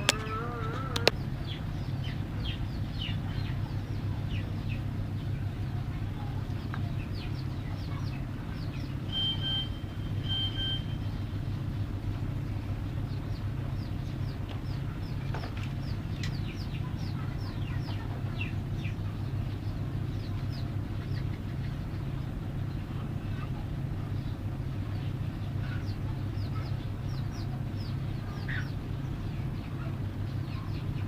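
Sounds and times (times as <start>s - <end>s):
chicks peeping: 0.0s - 11.9s, 12.8s - 31.0s
low mechanical hum: 0.0s - 31.0s.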